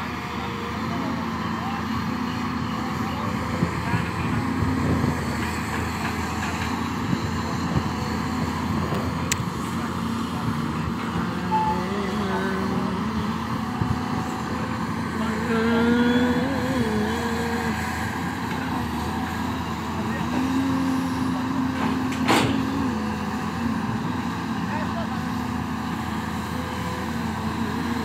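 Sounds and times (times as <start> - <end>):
excavator diesel engine under load: 0.0 - 28.0.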